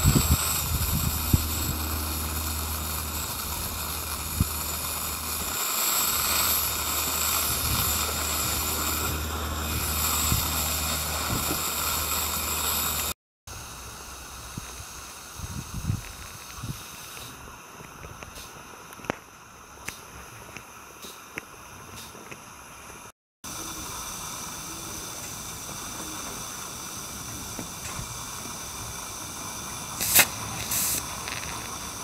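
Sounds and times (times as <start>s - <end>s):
gas burner hissing roar: 0.0s - 18.5s, 23.4s - 32.0s.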